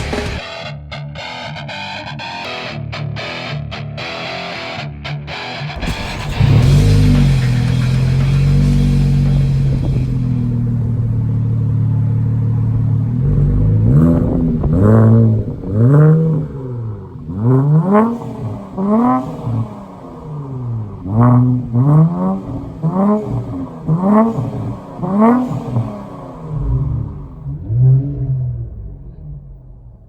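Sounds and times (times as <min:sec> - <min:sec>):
car engine idling and revving: 0:05.8 - 0:30.0.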